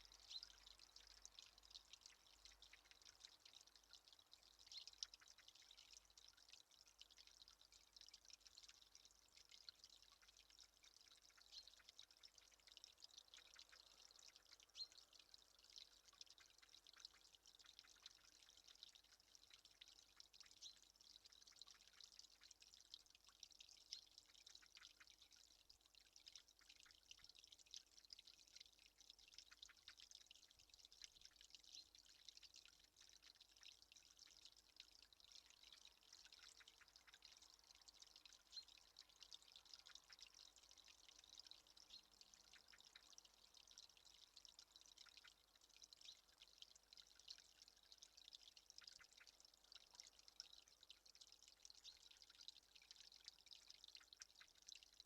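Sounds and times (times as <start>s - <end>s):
soft steady hiss: 0.0s - 55.0s
water dripping and trickling: 0.0s - 55.0s.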